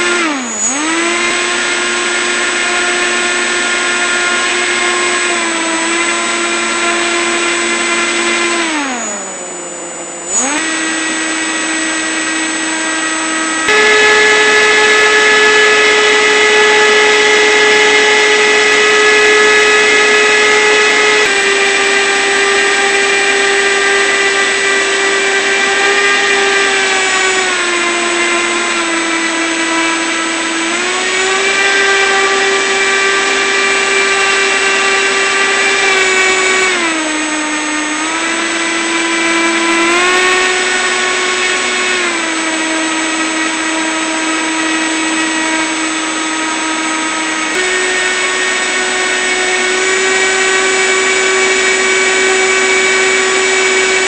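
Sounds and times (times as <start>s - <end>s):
model boat motor and propeller whine: 0.0s - 54.0s.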